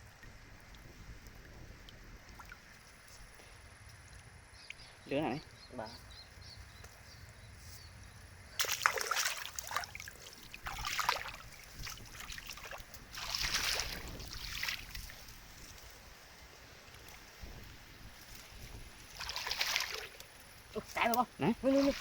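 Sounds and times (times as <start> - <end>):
water splashing and sloshing: 0.0 - 4.9, 8.5 - 22.0.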